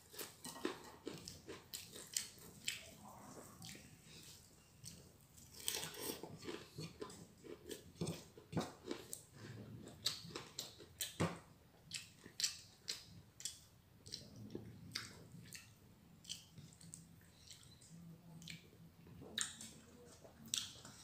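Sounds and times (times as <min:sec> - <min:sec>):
person chewing and smacking: 0:00.0 - 0:21.0.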